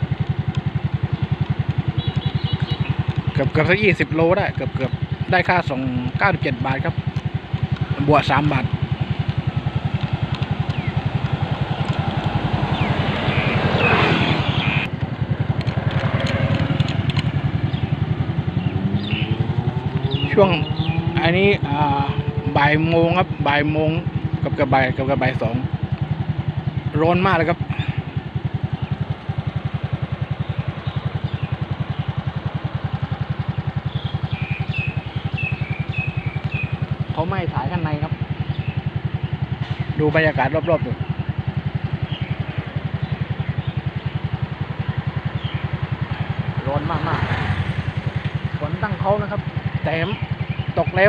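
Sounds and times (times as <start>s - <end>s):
motorcycle engine idling: 0.0s - 51.0s.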